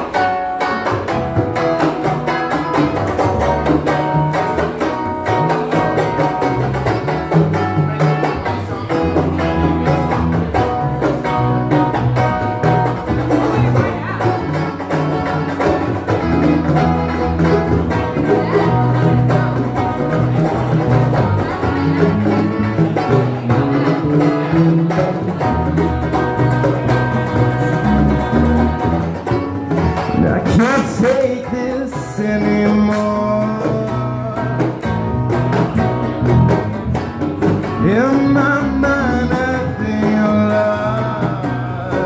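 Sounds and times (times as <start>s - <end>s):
bass line: 0.0s - 42.0s
guitar: 0.0s - 42.0s
hand drum percussion: 0.0s - 42.0s
live band playing amplified music: 0.0s - 42.0s.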